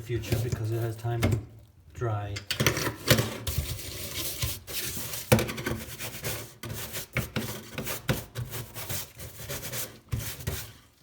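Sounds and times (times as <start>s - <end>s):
stiff brush scrubbing: 0.0s - 1.2s, 3.3s - 11.0s.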